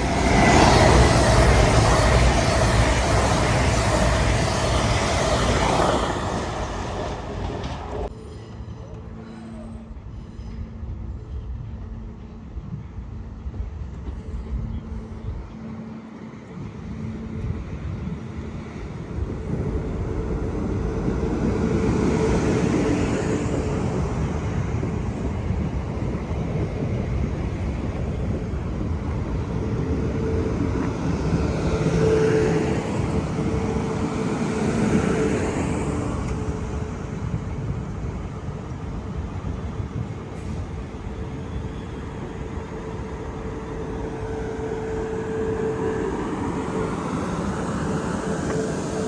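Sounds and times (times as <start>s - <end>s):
train rumbling past: 0.0s - 49.0s.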